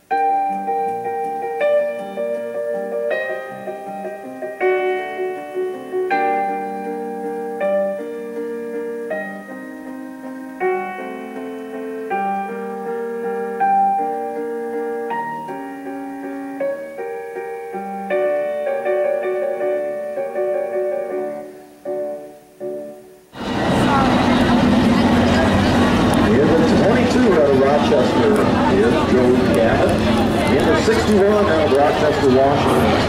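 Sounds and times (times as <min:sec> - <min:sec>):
piano chords: 0:00.0 - 0:33.0.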